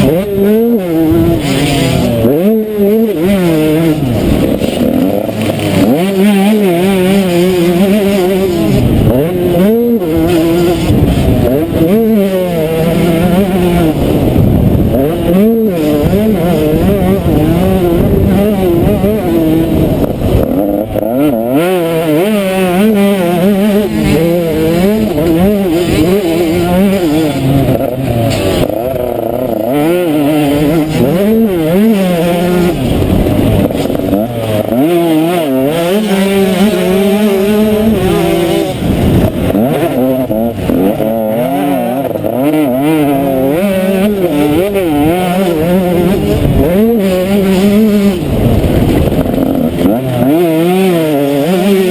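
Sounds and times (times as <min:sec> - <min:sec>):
motorbike engine revving: 0:00.0 - 0:51.9.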